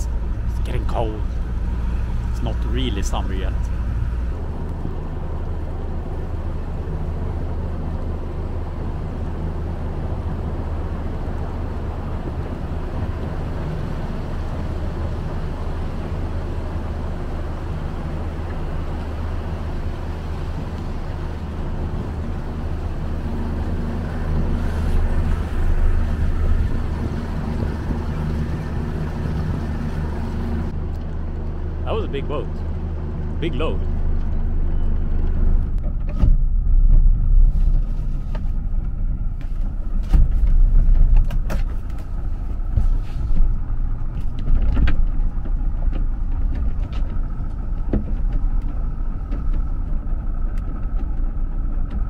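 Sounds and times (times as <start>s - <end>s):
outboard motor running: 0.0s - 52.0s
wind: 0.0s - 52.0s.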